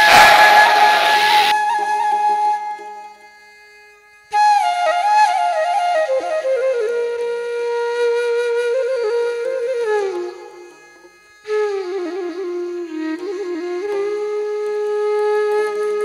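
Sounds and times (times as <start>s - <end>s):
solo flute melody: 0.0s - 3.3s, 4.4s - 16.0s.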